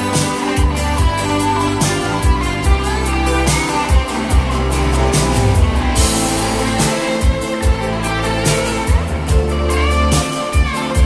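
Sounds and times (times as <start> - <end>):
instrumental pop ballad: 0.0 - 11.0.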